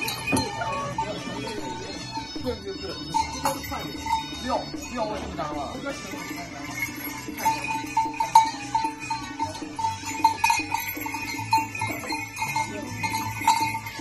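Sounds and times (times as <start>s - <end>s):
harness bells jingling: 0.0s - 14.0s.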